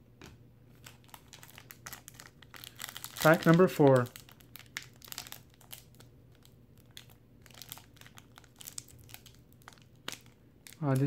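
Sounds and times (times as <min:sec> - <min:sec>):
foil wrapper crinkling: 0:00.8 - 0:11.0.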